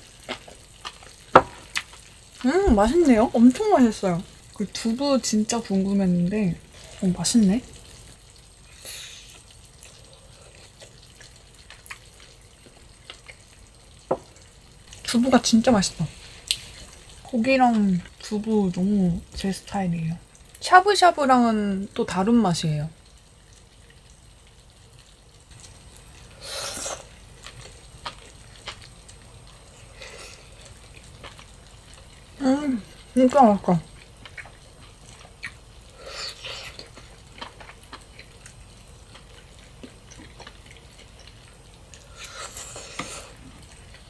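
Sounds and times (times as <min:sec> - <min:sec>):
hot pot bubbling and popping: 0:00.0 - 0:44.0.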